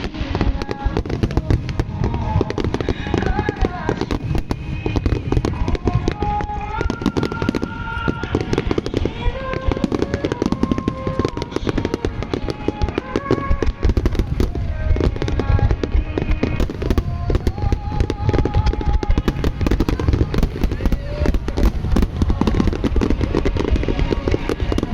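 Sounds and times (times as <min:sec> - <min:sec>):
fireworks cracks and booms: 0:00.0 - 0:24.9.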